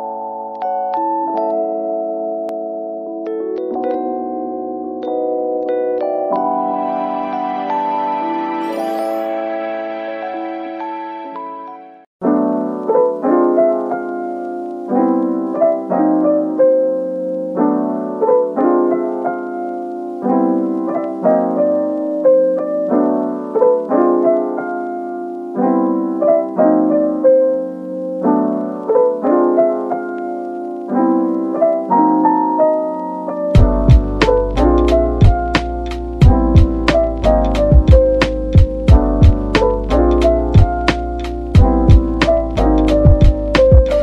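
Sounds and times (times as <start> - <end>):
gentle piano tune: 0.0 - 44.0.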